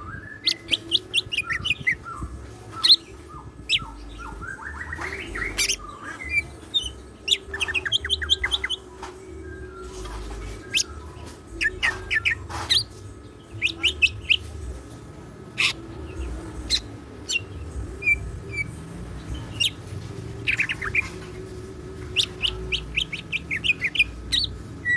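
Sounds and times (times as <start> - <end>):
bird singing chirps and trills: 0.0 - 24.9.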